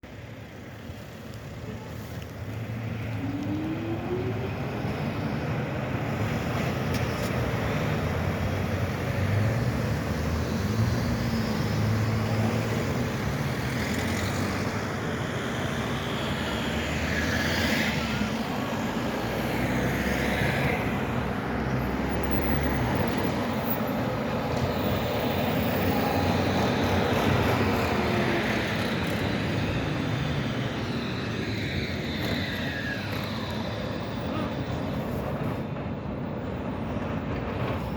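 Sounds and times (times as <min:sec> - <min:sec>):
tram wheels rumbling on rail: 0:00.0 - 0:37.9.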